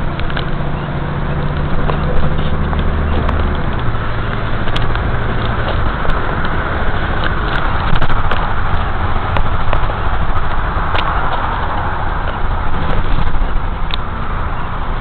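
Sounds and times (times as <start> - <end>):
car engine hum: 0.0 - 15.0
steady rushing noise: 0.0 - 15.0.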